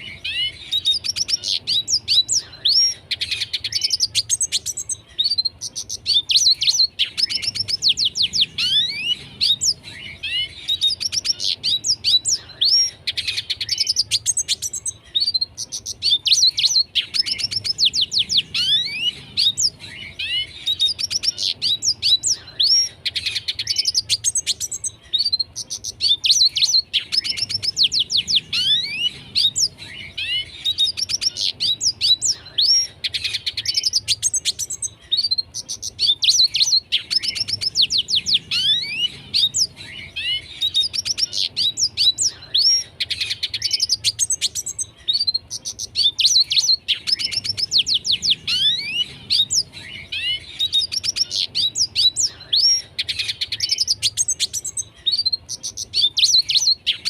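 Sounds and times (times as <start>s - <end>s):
bird singing trills and whistles: 0.0s - 57.0s.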